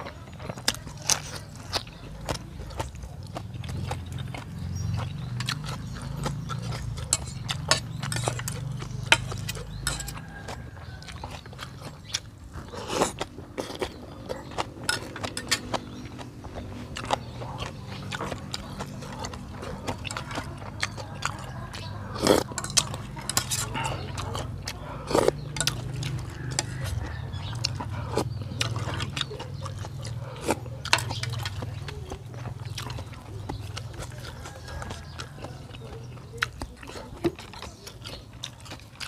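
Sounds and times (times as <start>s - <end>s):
person chewing noodle soup: 0.0s - 39.0s.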